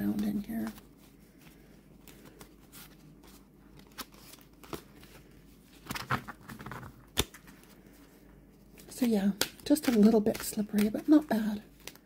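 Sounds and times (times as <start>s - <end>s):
cards rustling and sliding: 0.6s - 12.0s.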